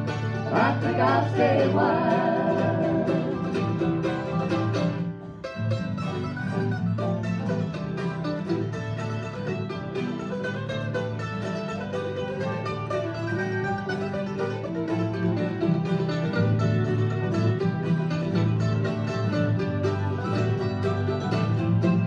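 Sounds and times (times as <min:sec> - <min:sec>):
bluegrass banjo and guitar: 0:00.0 - 0:22.0.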